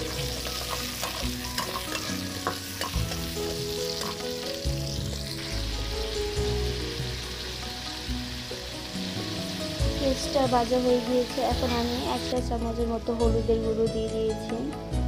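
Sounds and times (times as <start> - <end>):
vegetables sizzling in hot oil: 0.0 - 12.5.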